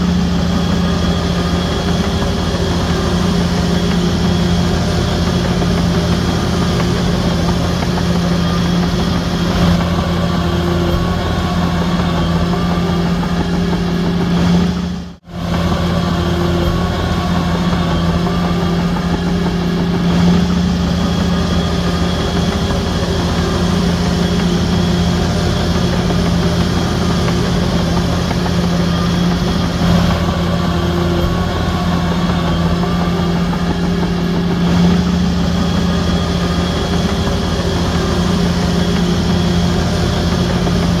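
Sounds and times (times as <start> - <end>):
heavy diesel machinery droning: 0.0 - 41.0.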